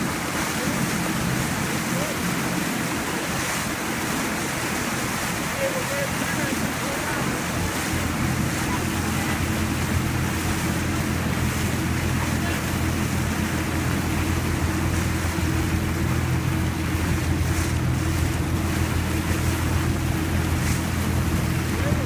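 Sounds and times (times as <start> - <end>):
motorboat engine running: 0.0 - 22.0
rush of wake water: 0.0 - 22.0.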